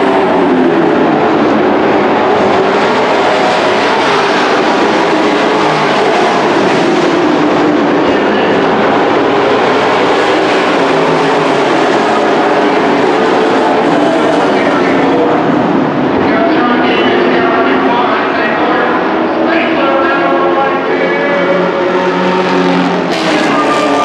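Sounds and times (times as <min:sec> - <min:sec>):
race truck engines roaring: 0:00.0 - 0:24.0.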